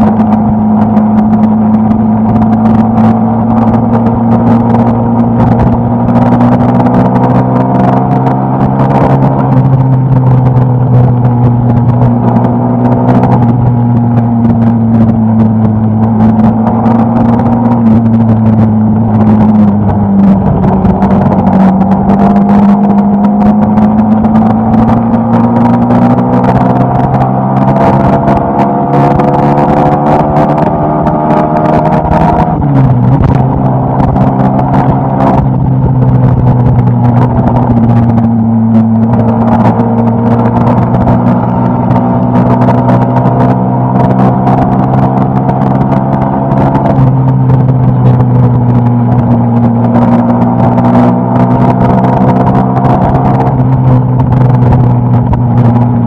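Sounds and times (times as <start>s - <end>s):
motorcycle engine revving: 0.0s - 56.0s
wind on microphone: 0.0s - 56.0s.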